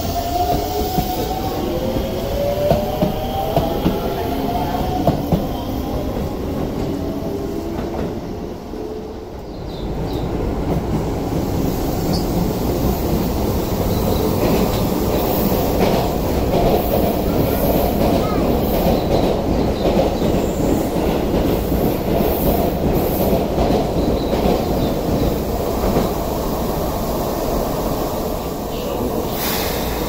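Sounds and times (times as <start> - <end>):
approaching train rumble: 0.0 - 30.0.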